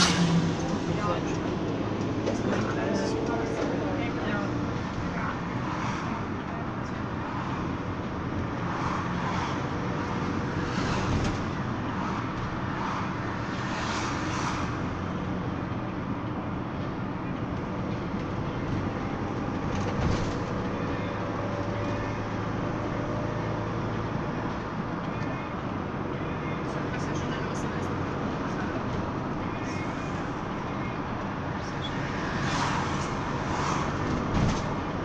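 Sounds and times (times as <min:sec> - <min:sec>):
road noise: 0:00.0 - 0:35.0
vehicle engine hum: 0:00.0 - 0:35.0.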